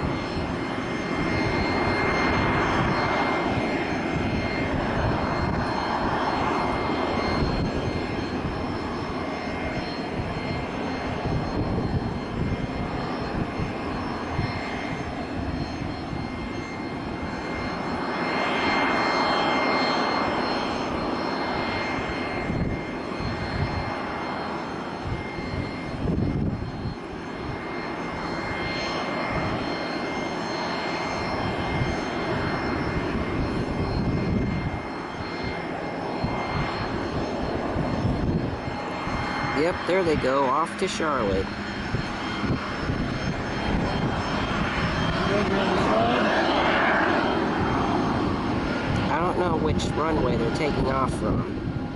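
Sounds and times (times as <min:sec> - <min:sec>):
jet engines whining and roaring: 0:00.0 - 0:51.9
wind buffeting microphone: 0:00.0 - 0:51.9.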